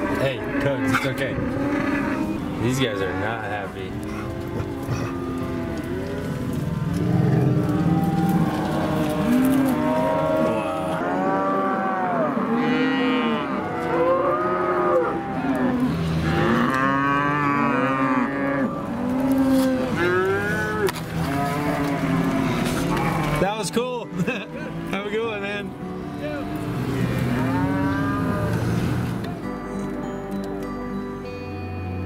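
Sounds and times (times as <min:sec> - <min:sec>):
cattle mooing and bawling: 0:00.0 - 0:25.4, 0:26.4 - 0:29.8.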